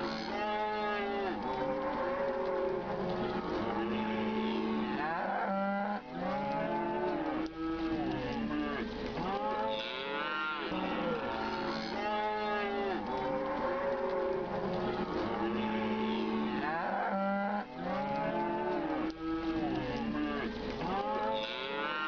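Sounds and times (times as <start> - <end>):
cattle mooing: 0.0 - 2.7, 3.3 - 14.4, 15.0 - 19.1, 19.7 - 22.0.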